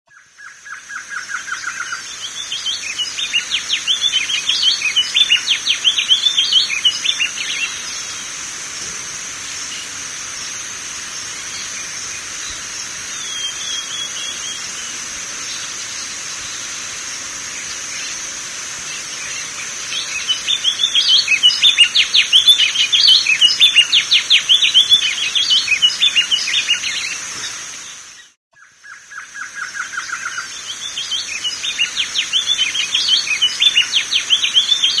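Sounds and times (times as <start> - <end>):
bird twittering song: 0.1 - 35.0.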